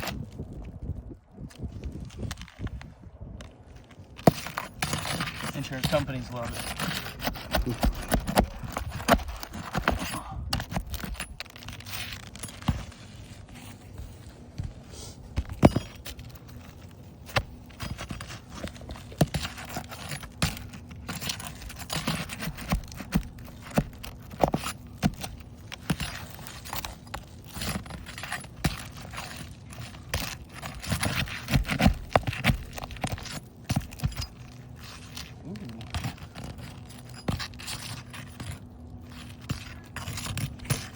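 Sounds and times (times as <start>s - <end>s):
tools working on shingle roof: 3.4s - 40.9s.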